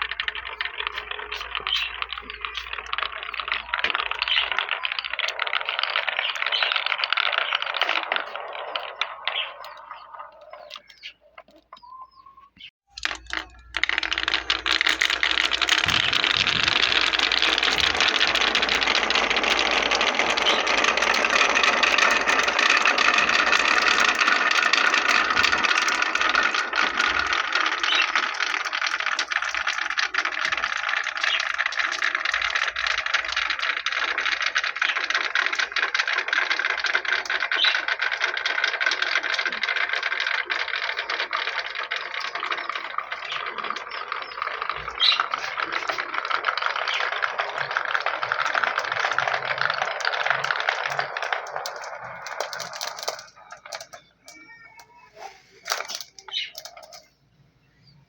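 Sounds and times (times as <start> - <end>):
marbles rattling down a marble run: 0.0 - 11.7, 12.9 - 57.3.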